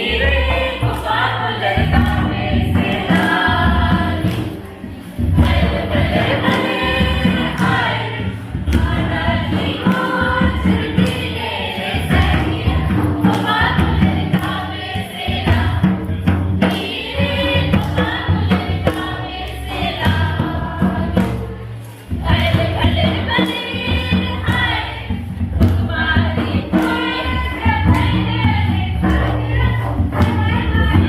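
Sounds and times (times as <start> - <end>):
group of voices singing: 0.0 - 31.0
steady drum strokes: 0.0 - 31.0.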